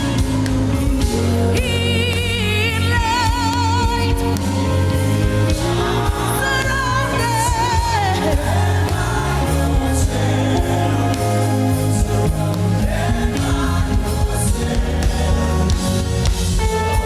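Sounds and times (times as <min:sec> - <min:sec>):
choir voices: 0:00.0 - 0:17.0
lead singer with wide vibrato: 0:00.0 - 0:17.0
sustained instrumental chords and bass: 0:00.0 - 0:17.0.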